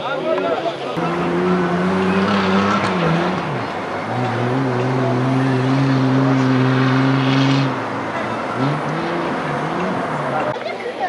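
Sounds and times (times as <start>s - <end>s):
off-road vehicle engine under load: 0.8s - 10.6s.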